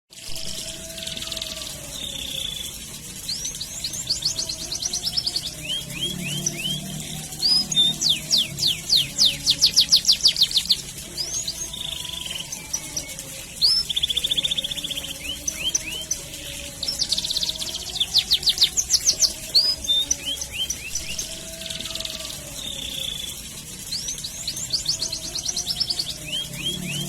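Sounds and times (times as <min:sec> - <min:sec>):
canary singing: 0:00.1 - 0:27.0.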